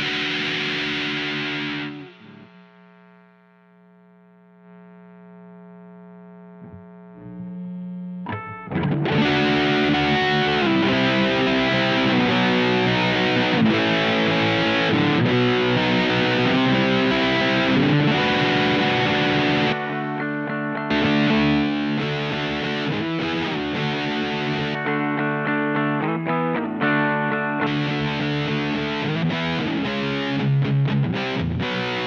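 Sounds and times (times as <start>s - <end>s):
fuzzed electric guitar riff: 0.0s - 32.0s.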